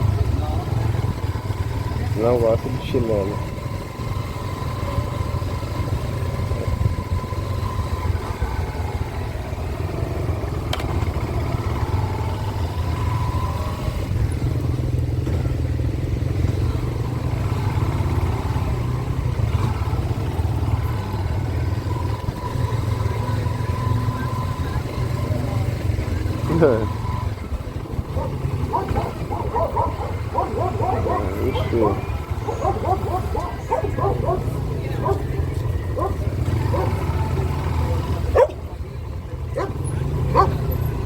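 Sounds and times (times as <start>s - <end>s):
faint engine whine: 0.0s - 41.0s
motorcycle engine running: 0.0s - 41.0s.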